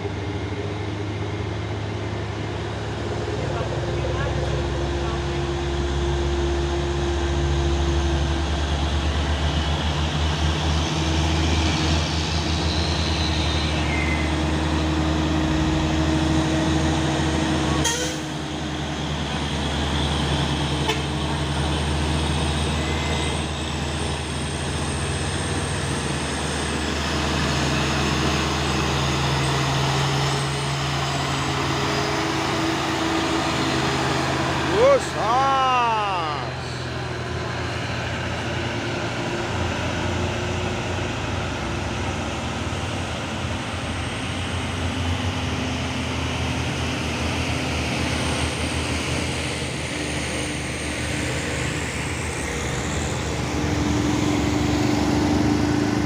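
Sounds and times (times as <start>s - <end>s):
heavy truck engine running: 0.0s - 56.0s.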